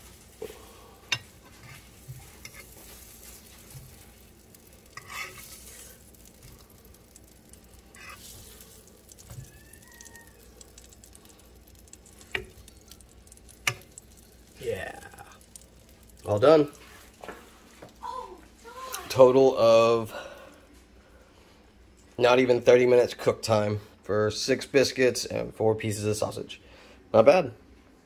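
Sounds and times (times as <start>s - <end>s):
sausage sizzling faintly: 0.0s - 27.3s.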